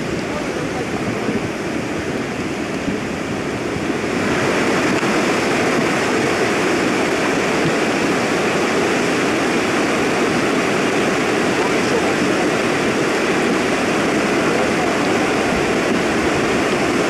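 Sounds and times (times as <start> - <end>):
mountain torrent roaring: 0.0 - 17.0.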